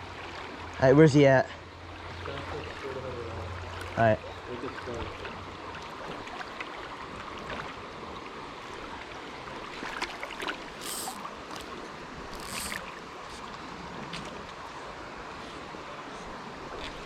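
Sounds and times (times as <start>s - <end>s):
creek water running over riffles: 1.9s - 17.0s.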